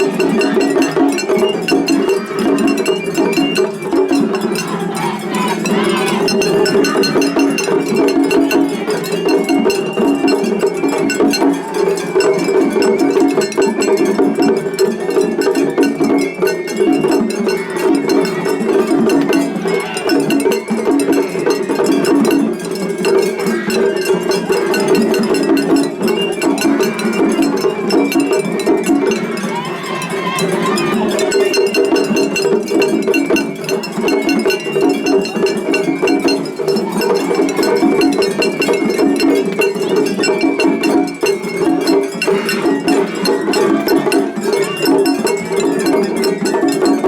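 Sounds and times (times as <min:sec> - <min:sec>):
taiko drums beaten fast: 0:00.0 - 0:47.0.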